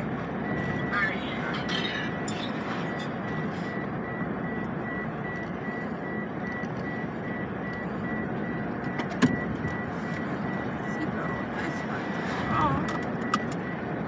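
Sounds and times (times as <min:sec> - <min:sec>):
car tyres on wet road: 0:00.0 - 0:14.0.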